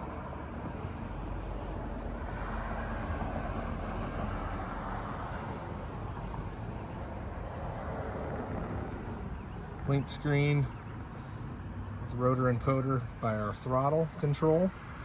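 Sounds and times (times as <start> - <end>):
outdoor background rumble and hiss: 0.0 - 15.0.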